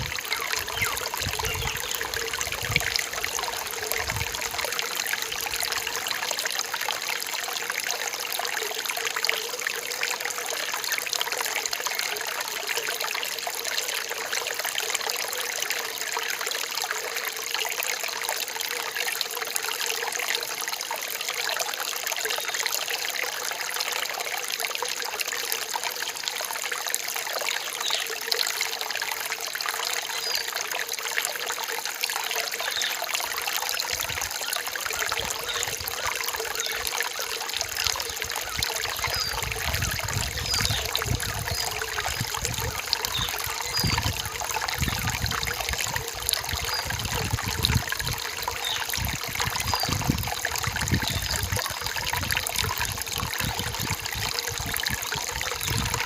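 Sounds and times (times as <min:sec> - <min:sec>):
stream trickling and splashing: 0:00.0 - 0:56.0.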